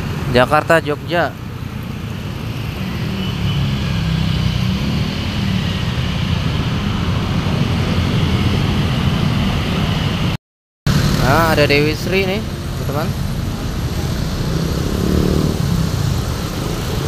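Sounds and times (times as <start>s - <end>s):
motor scooter engines: 0.0s - 10.3s, 10.9s - 17.0s.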